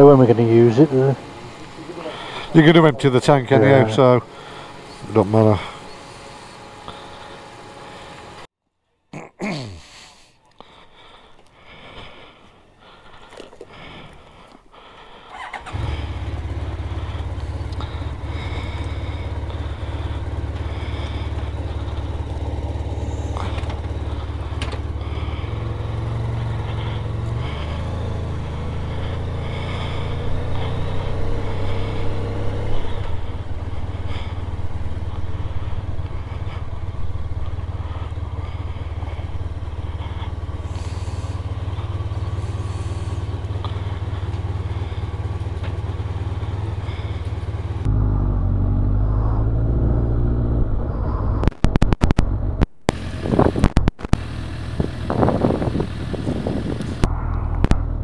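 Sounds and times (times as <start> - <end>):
motorcycle engine idling: 0.0 - 8.5, 10.8 - 47.9, 54.2 - 58.0.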